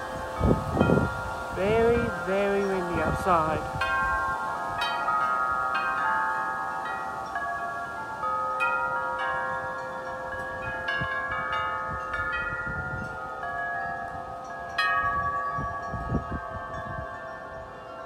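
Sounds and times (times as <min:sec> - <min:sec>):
low rumble of wind gusts: 0:00.0 - 0:18.0
wind chimes ringing: 0:00.0 - 0:18.0.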